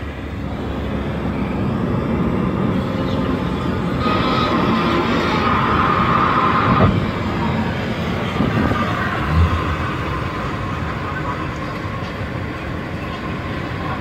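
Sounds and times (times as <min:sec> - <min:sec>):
road and wind noise inside vehicle: 0:00.0 - 0:14.0.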